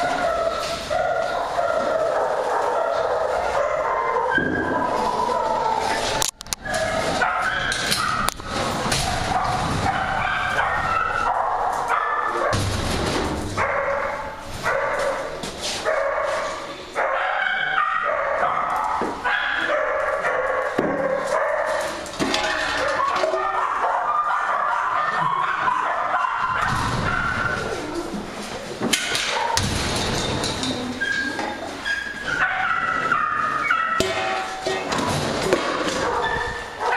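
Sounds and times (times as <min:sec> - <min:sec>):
dogs barking and yelping: 0:00.0 - 0:36.9.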